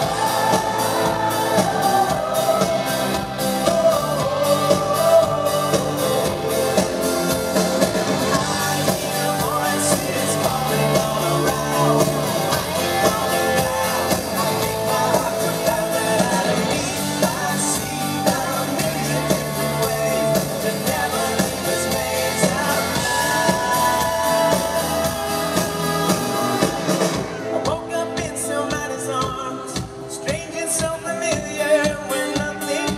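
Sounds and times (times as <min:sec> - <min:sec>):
drum kit: 0:00.0 - 0:32.9
electric guitar: 0:00.0 - 0:32.9
man singing lead vocal: 0:00.0 - 0:32.9.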